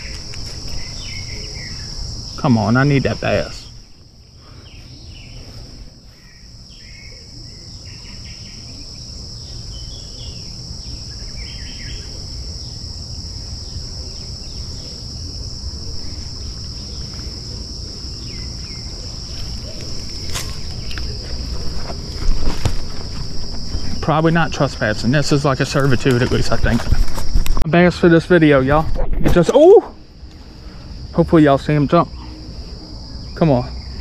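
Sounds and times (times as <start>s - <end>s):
insects chorus: 0.0s - 34.0s.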